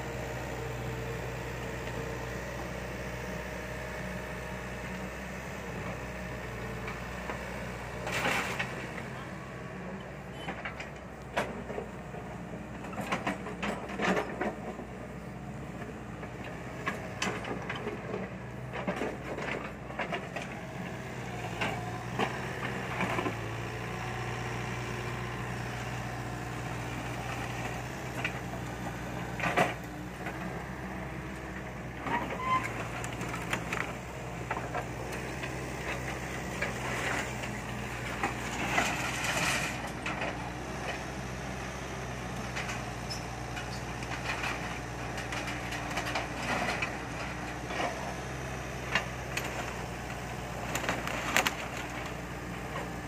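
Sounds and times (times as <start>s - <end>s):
diesel excavator engine running: 0.0s - 53.0s.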